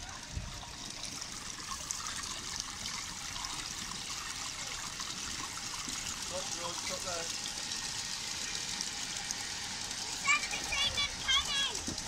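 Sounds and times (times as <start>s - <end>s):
water trickling over stones: 0.0s - 12.0s.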